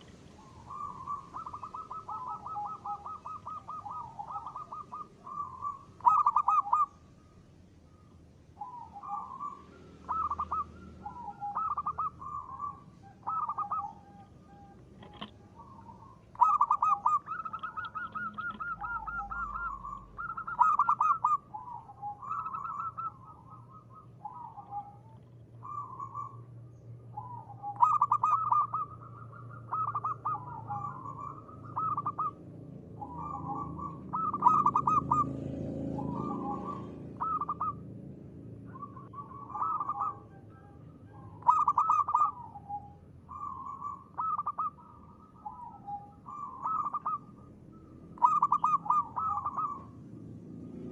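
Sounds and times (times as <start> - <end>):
dove cooing: 0.0 - 7.0, 7.9 - 50.9
low background rumble: 0.0 - 50.9.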